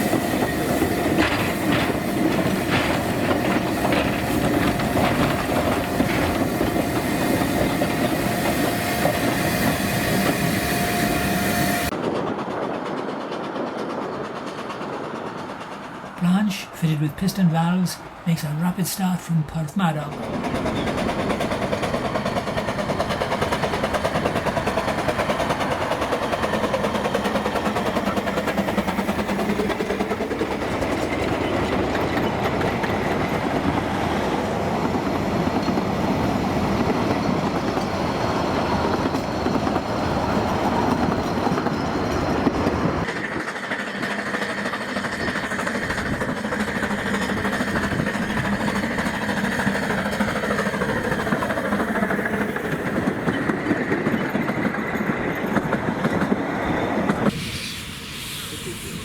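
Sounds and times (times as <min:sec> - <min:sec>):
steam locomotive exhaust beats: 0:00.0 - 0:12.2, 0:20.2 - 0:59.0.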